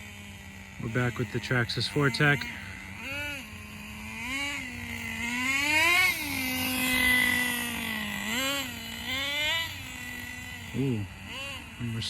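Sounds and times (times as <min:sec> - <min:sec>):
small nitro engine revving: 0:00.0 - 0:12.0.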